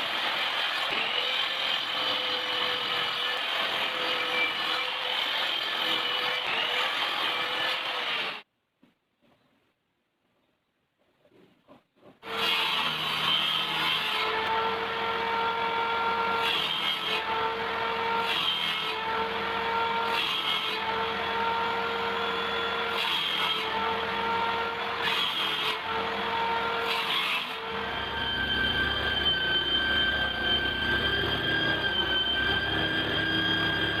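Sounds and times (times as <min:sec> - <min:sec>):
power tool cutting wood: 0:00.0 - 0:08.5, 0:12.2 - 0:34.0.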